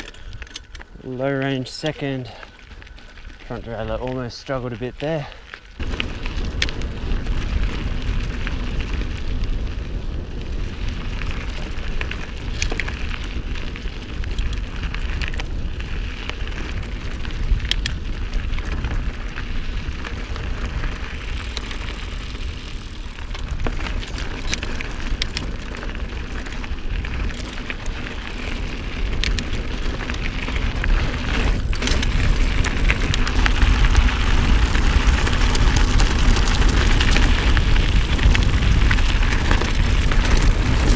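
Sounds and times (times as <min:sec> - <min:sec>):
bike drivetrain clicks and rattles: 0:00.0 - 0:40.9
bike tyres on gravel trail: 0:00.0 - 0:40.9
wind rumbling on microphone: 0:00.0 - 0:40.9.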